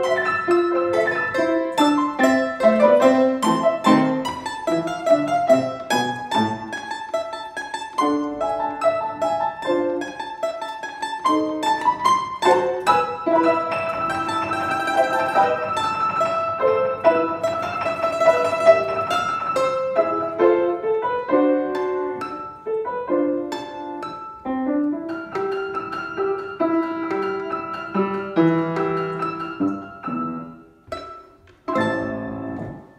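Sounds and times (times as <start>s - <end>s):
plucked domra melody: 0.0s - 20.8s, 25.0s - 32.9s
piano chords: 0.0s - 32.9s.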